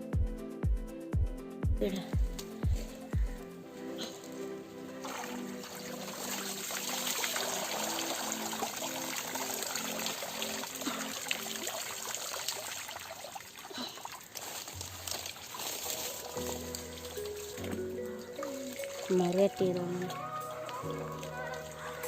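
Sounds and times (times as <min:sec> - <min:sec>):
slow background melody: 0:00.0 - 0:22.0
water trickling and splashing: 0:02.2 - 0:22.0.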